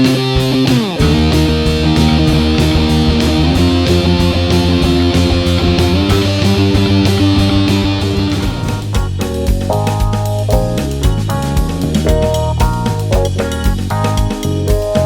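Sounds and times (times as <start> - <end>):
guitar slide: 0.0 - 15.0
rock music with electric guitar: 0.0 - 15.0.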